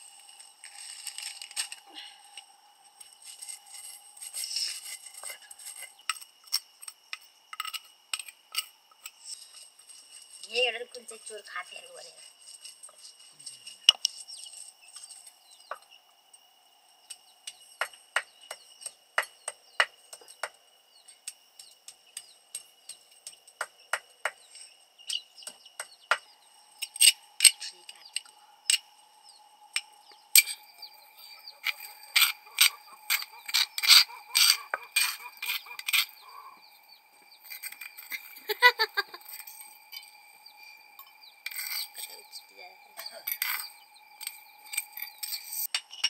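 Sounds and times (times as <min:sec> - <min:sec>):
high insect drone: 0:00.0 - 0:46.0.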